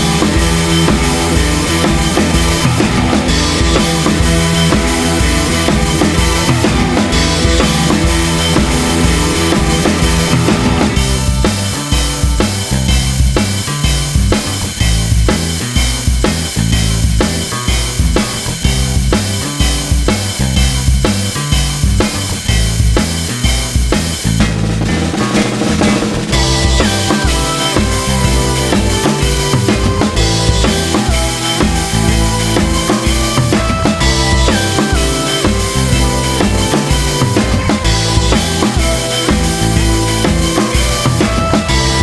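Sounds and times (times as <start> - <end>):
music with drum-kit beat: 0.0 - 42.0.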